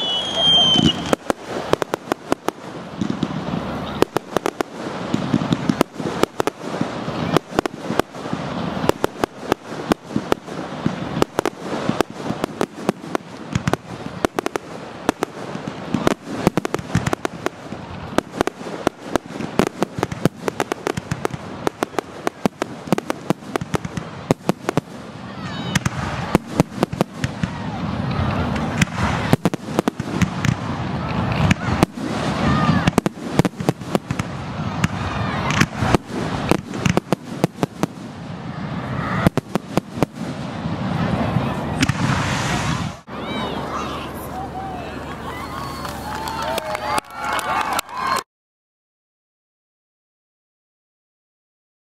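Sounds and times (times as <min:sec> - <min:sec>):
fireworks cracking and banging: 0:00.0 - 0:48.2.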